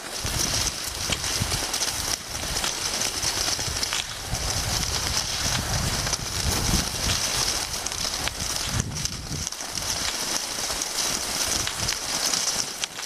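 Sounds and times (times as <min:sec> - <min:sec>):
skis gliding over snow: 0:00.0 - 0:13.0
wind rumbling on microphone: 0:00.0 - 0:13.0.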